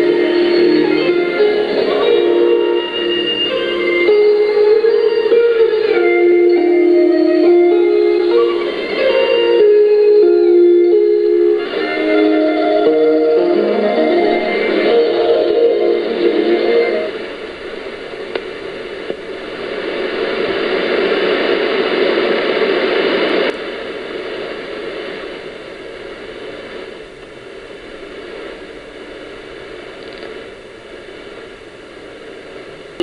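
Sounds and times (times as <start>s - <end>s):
radio music: 0.0s - 33.0s
radio static hiss: 0.0s - 33.0s.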